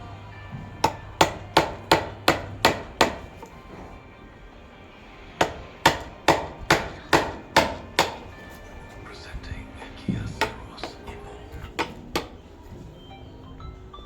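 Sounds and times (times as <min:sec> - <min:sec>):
ringing hammer blows: 0:00.0 - 0:04.0, 0:05.4 - 0:13.8.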